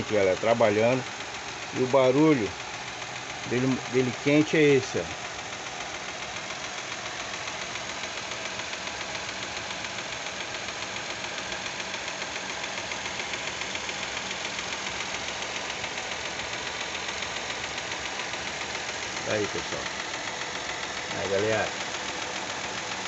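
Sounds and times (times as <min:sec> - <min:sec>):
car engine running: 0:00.0 - 0:23.0
rapid even engine ticking: 0:00.0 - 0:23.0.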